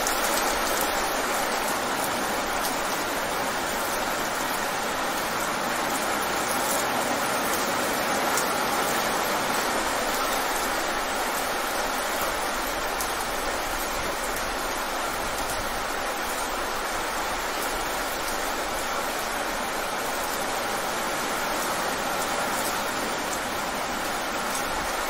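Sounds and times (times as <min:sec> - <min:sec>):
rain falling on wet pavement: 0:00.0 - 0:25.0.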